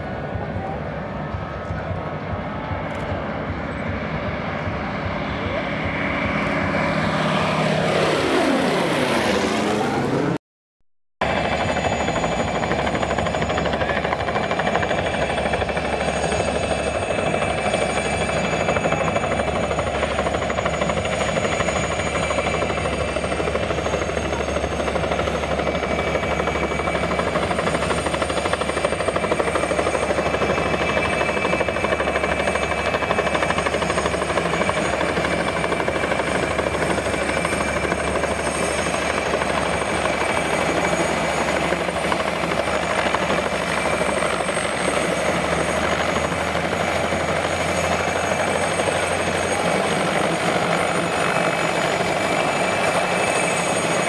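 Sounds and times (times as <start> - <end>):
helicopter rotor and engines: 0.0 - 10.4, 11.2 - 54.0.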